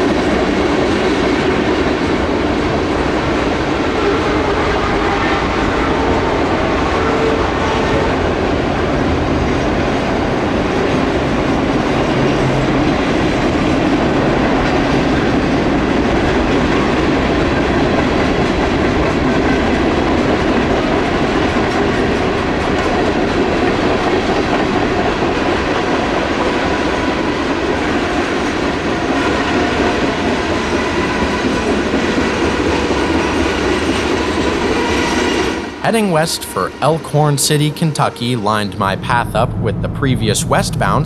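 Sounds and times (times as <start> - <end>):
clickety-clack over rail joints: 0.0 - 5.5, 6.5 - 35.9
train wheels rumbling on rails: 0.0 - 41.0.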